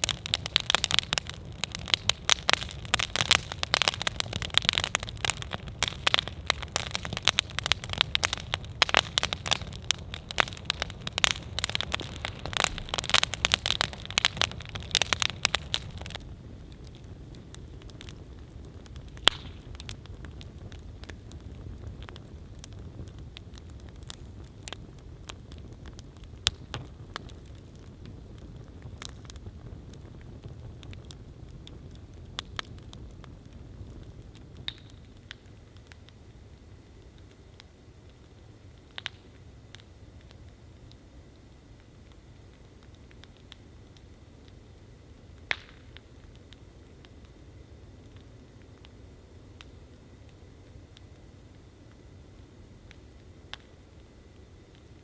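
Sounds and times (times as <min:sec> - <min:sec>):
campfire crackling and popping: 0:00.0 - 0:55.0
low fire hiss: 0:00.0 - 0:55.0.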